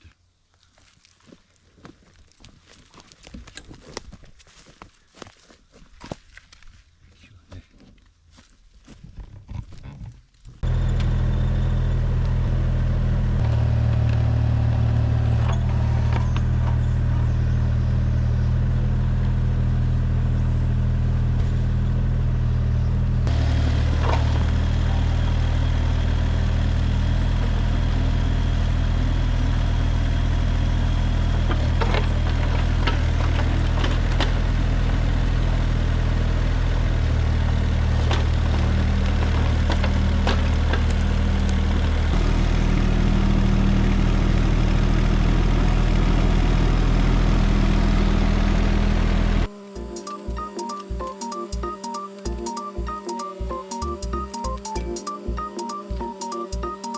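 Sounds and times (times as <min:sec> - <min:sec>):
excavator diesel engine running: 0:10.6 - 0:56.9.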